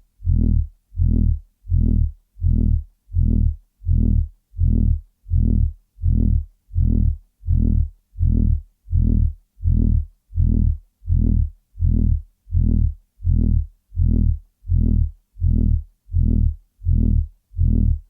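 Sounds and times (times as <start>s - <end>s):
low buzzing throb pulsing: 0.2s - 18.0s.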